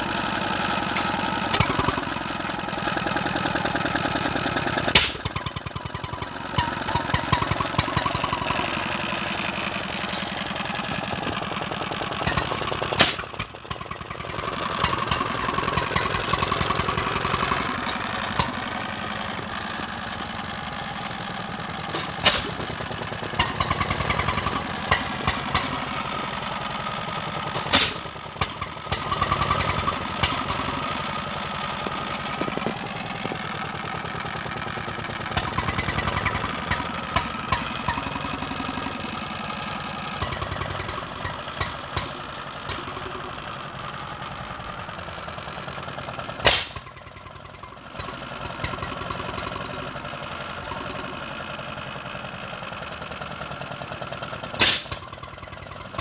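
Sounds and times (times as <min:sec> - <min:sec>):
stationary engine running: 0:00.0 - 0:56.0
sharp engine knocks: 0:00.9 - 0:20.0, 0:21.6 - 0:43.6, 0:45.6 - 0:51.5, 0:54.3 - 0:56.0.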